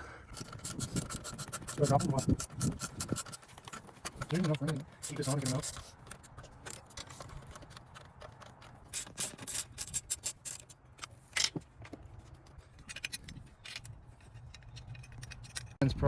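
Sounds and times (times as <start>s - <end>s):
hand tools clicking and knocking: 0.3s - 15.8s.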